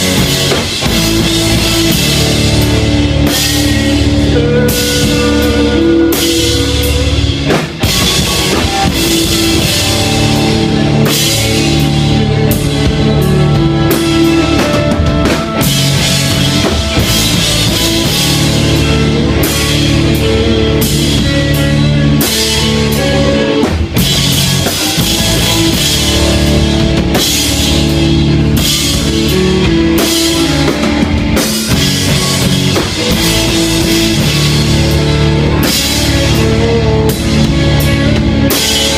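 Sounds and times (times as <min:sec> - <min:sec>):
rock music: 0:00.0 - 0:38.9.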